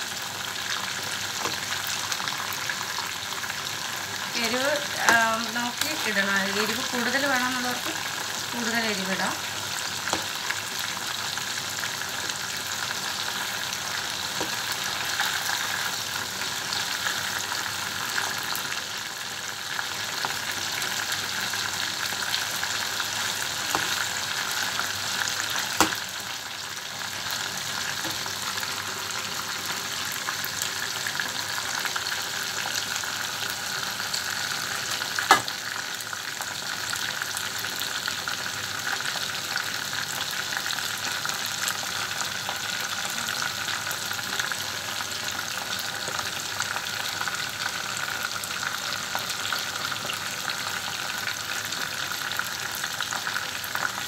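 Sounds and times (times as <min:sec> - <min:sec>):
chicken sizzling in hot oil: 0:00.0 - 0:54.0.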